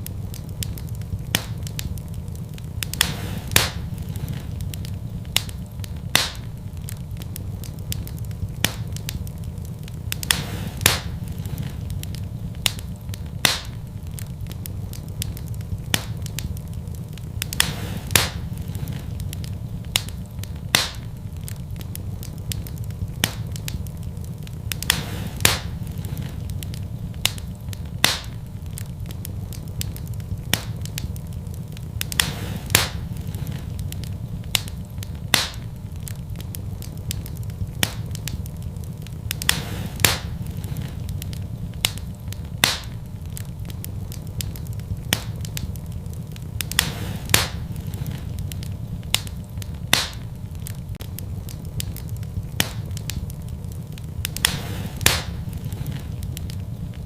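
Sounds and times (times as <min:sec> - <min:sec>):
fire crackling and popping: 0:00.0 - 0:57.0
low steady rumble: 0:00.0 - 0:57.0.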